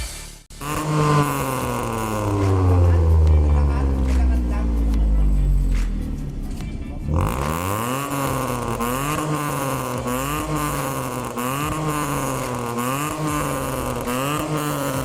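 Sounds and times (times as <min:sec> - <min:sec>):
car exhaust drone: 0:00.3 - 0:15.0.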